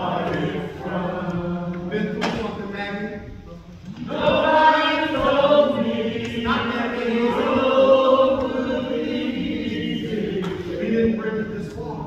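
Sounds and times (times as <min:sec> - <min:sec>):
chant-like singing voices: 0:00.0 - 0:03.2, 0:03.9 - 0:12.0.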